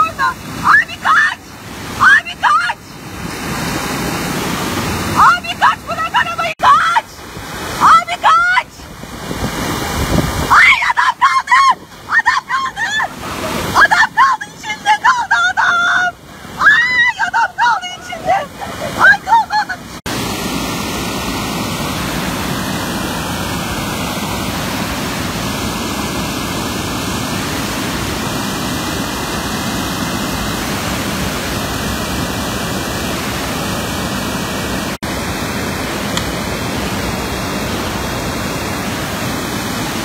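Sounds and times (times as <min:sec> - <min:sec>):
rushing flood torrent: 0:00.0 - 0:40.0.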